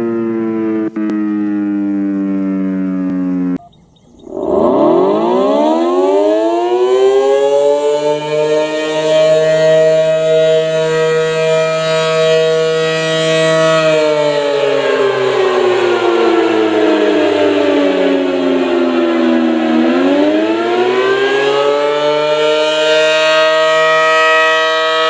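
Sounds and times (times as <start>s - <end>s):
tornado siren wailing: 0.0s - 25.0s.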